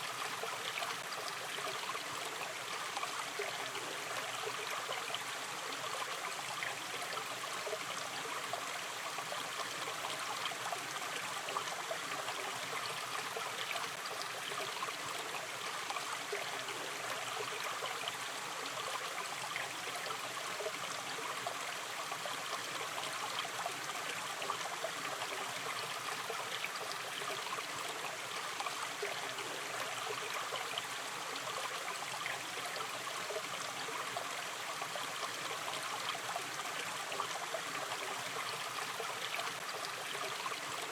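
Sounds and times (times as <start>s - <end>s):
stream babbling: 0.0s - 40.9s.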